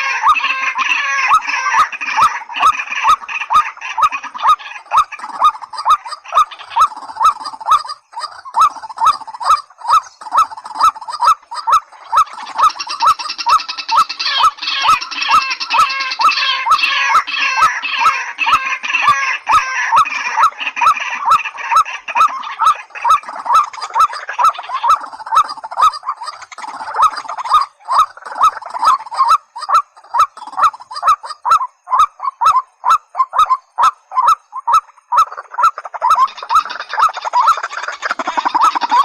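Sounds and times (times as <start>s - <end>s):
waterhen repeated calls: 0.0s - 39.0s.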